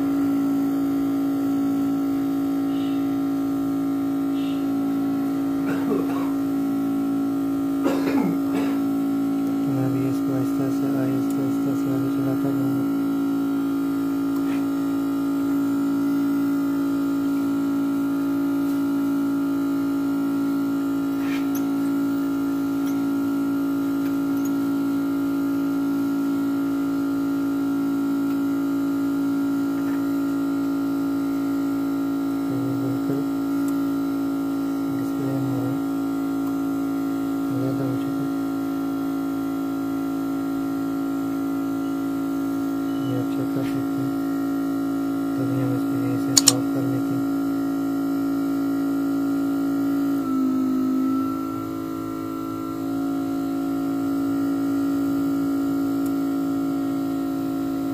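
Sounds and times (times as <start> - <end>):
synthesizer drone with soft pulse: 0.0 - 57.9.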